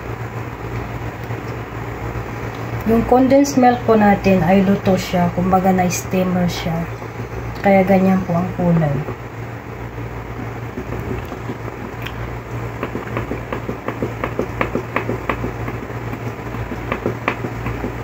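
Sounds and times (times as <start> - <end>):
low appliance hum: 0.0 - 18.0.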